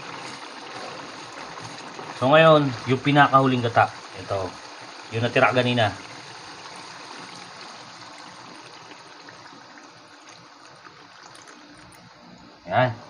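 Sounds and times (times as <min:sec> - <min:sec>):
liquid pouring in a trickle: 0:00.0 - 0:12.6
oil bubbling in a wok: 0:00.0 - 0:12.6.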